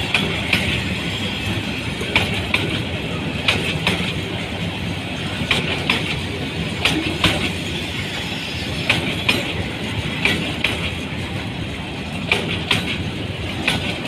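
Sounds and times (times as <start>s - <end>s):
wheels clicking over rail joints: 0.0s - 7.7s, 8.6s - 14.0s
train wheels rumbling on rails: 0.0s - 14.0s.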